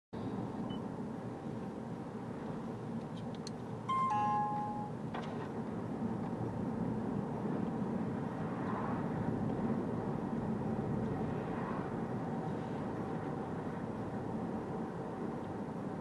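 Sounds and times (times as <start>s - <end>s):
tyre road noise: 0.2s - 16.0s.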